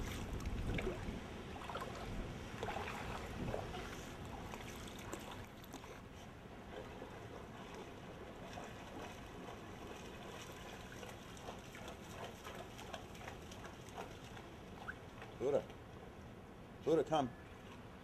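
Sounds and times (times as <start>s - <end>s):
dog wading through shallow water: 0.0s - 15.8s.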